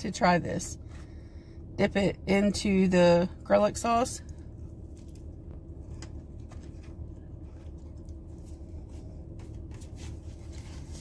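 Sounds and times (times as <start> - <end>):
low hum inside a car: 0.0 - 11.0.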